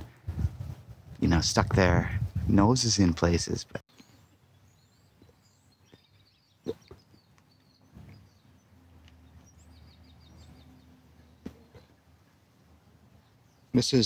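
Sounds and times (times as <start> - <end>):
songbirds chirping: 1.1 - 14.0.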